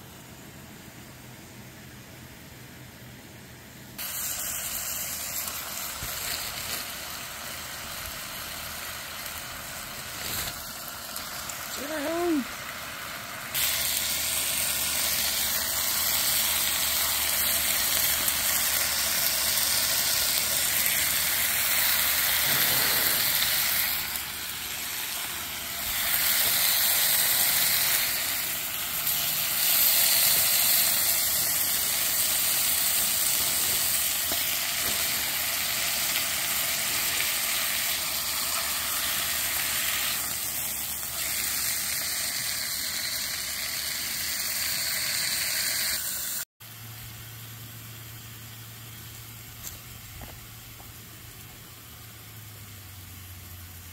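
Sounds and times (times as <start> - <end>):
meat sizzling in a frying pan: 4.0 - 53.9.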